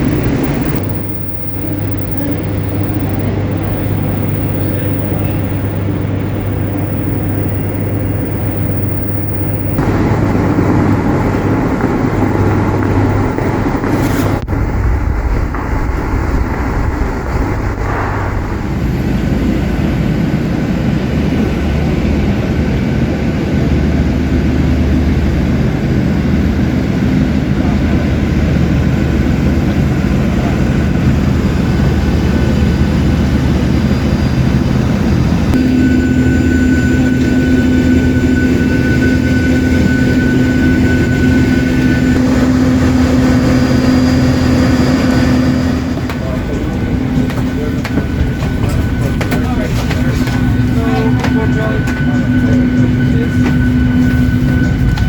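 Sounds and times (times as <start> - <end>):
aircraft rumble: 0.0 - 55.0
aircraft whine: 0.0 - 55.0.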